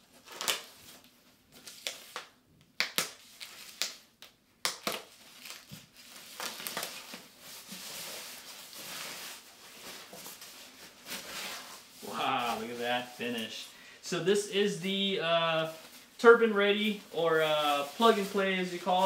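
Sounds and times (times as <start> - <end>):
packaging crinkling and rustling: 0.0 - 13.8, 15.0 - 19.0.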